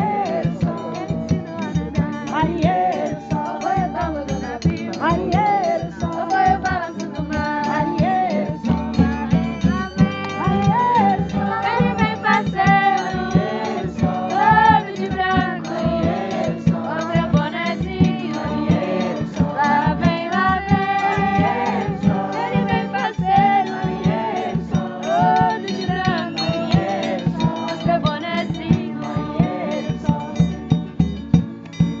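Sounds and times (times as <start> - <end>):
voices singing folk song: 0.0 - 31.9
percussion beat: 0.0 - 32.0.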